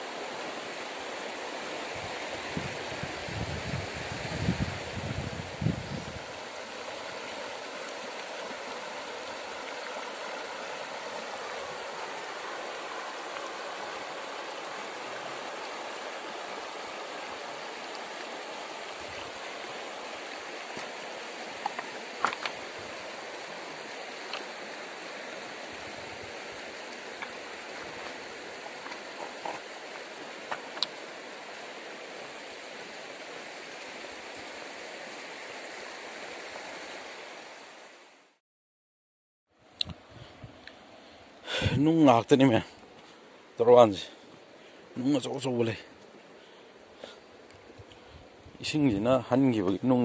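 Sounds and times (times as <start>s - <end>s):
river flowing over stones: 0.0s - 38.4s, 40.8s - 50.0s.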